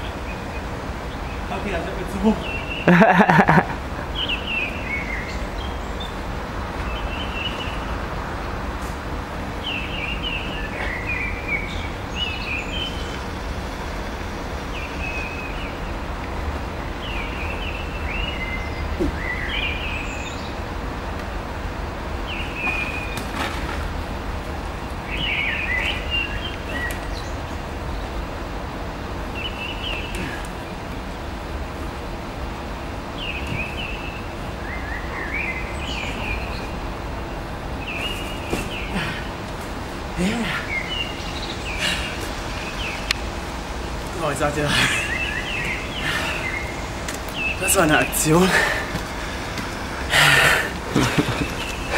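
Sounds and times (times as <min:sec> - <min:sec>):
birds chirping: 0:00.0 - 0:51.9
steady noise with low rumble: 0:00.0 - 0:51.9.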